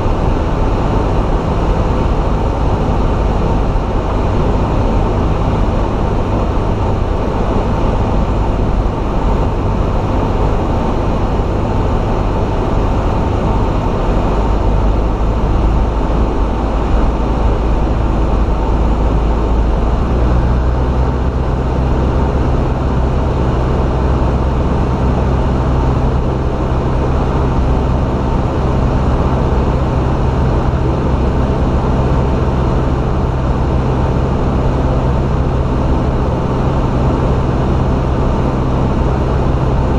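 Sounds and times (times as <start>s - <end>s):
aeroplane engine and propeller drone: 0.0s - 39.9s.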